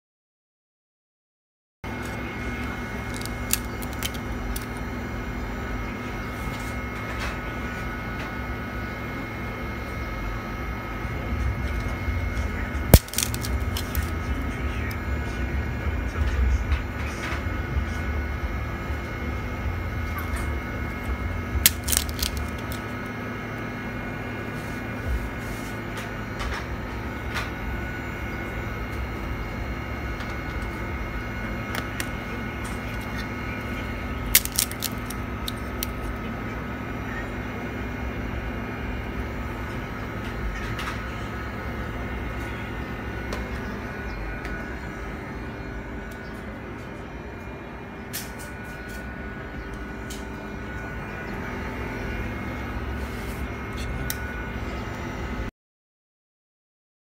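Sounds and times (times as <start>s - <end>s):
cooling unit humming: 1.8s - 55.5s.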